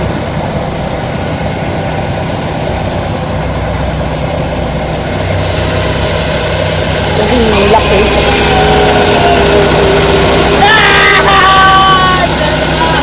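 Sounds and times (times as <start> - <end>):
large engine humming: 0.0 - 13.0.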